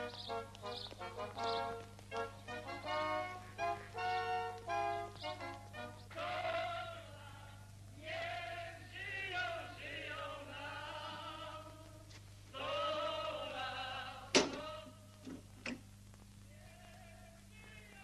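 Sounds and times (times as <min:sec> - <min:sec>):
voices singing together: 0:00.0 - 0:15.4
low steady hum: 0:00.0 - 0:18.0.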